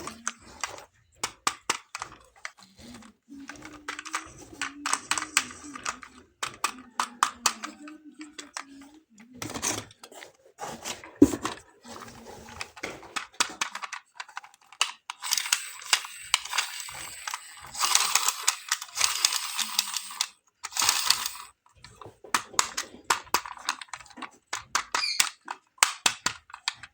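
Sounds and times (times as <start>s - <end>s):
toy cars clicking and rattling: 0.0s - 26.9s.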